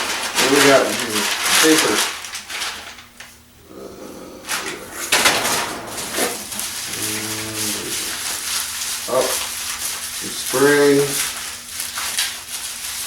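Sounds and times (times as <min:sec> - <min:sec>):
packing paper rustling: 0:00.0 - 0:03.4, 0:04.5 - 0:13.0.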